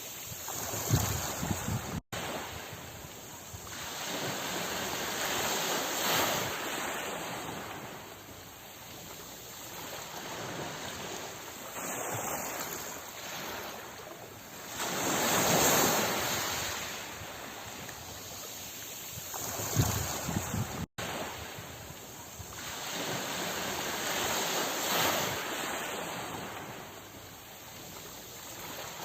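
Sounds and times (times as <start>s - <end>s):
sea waves washing on shore: 0.0s - 29.0s.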